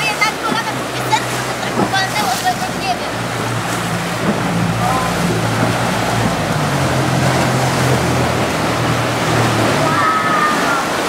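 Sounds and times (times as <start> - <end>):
outboard motor droning: 0.0 - 11.0
wind and water rushing: 0.0 - 11.0.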